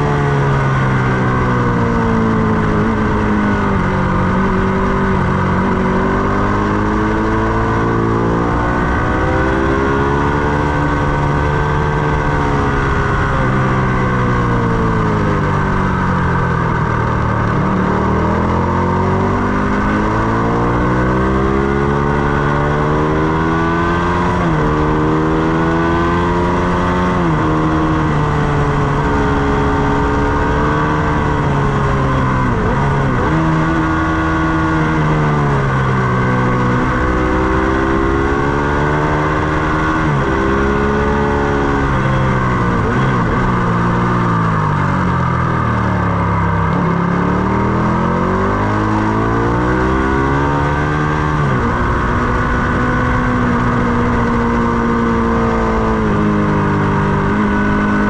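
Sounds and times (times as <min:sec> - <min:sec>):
wind noise: 0:00.0 - 0:45.5, 0:46.6 - 0:58.0
motorcycle engine revving through gears: 0:00.0 - 0:58.0.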